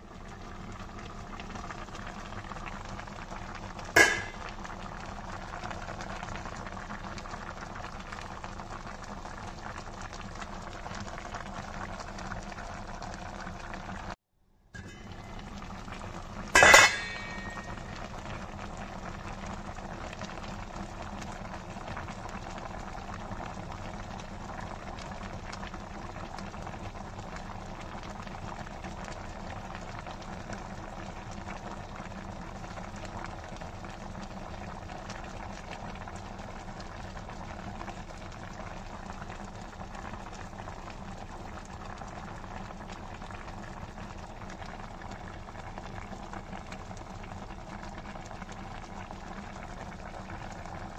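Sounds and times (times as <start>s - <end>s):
broth bubbling in a pot: 0.0s - 50.9s.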